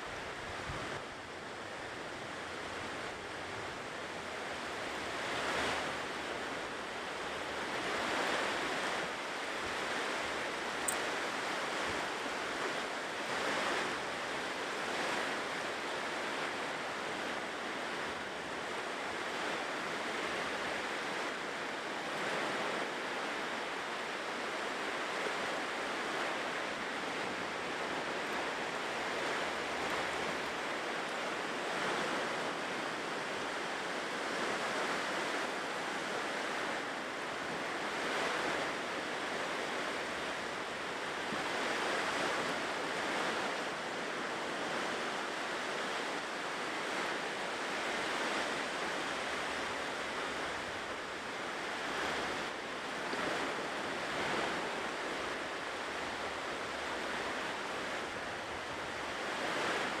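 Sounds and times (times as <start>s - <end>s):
ocean waves breaking on shore: 0.0s - 60.0s.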